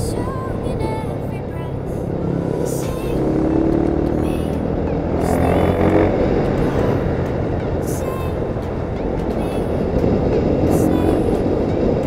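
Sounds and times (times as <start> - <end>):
motorcycle engine accelerating: 0.0 - 12.0
wind and road rush: 0.0 - 12.0.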